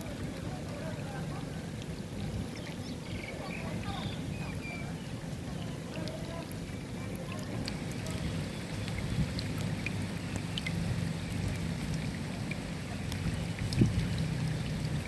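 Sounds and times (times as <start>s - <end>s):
raindrops ticking and splashing: 0.0s - 15.0s
steady rain: 0.0s - 15.0s.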